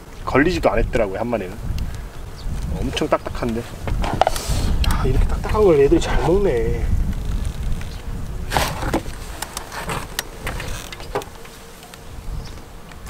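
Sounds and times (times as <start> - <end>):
rustle: 0.0 - 13.0
wind rumble on microphone: 0.0 - 13.0.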